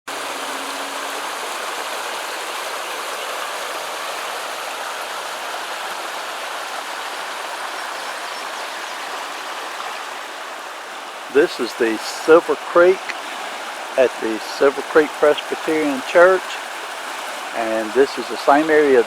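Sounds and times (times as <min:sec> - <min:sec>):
creek rushing: 0:00.1 - 0:19.0.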